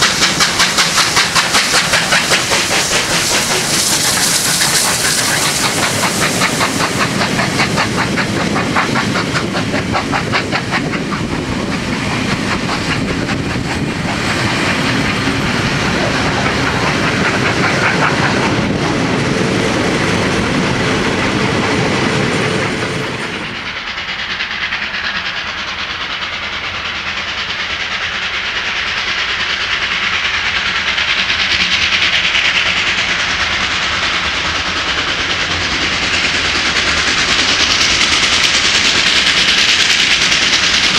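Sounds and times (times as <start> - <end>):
distant steam locomotive hiss: 0.0 - 40.9
steam hissing: 0.0 - 40.9
train wheels clickety-clack: 0.0 - 40.9.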